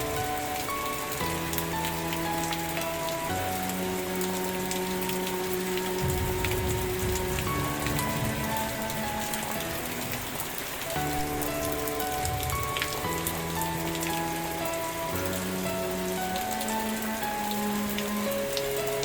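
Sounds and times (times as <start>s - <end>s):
rain falling: 0.0s - 19.0s
soft music with held notes: 0.0s - 19.0s.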